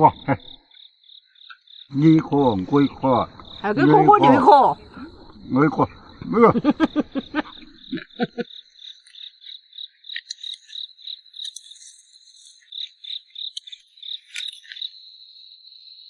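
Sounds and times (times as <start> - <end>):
insects trilling and chirping: 0.0 - 16.0.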